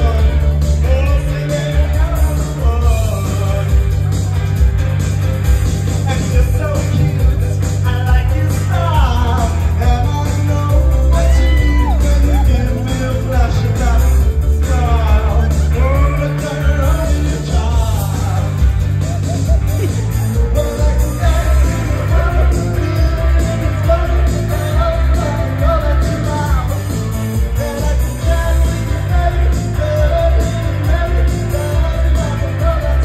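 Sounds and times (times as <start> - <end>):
person singing into microphone: 0.0 - 4.1, 6.1 - 33.0
heavy pulsing bass: 0.0 - 33.0.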